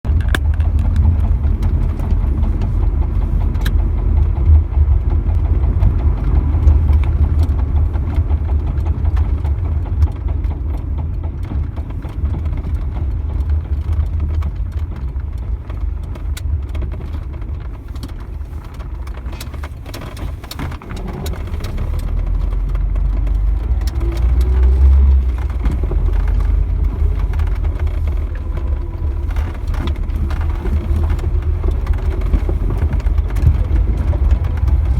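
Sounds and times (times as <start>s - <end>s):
car engine rumbling: 0.0s - 34.9s.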